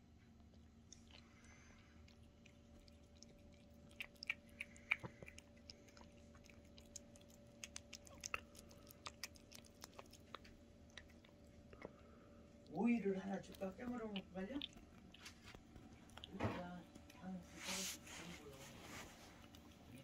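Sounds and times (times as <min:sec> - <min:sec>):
faint steady hum: 0:00.0 - 0:20.0
cat chewing and licking: 0:00.3 - 0:20.0.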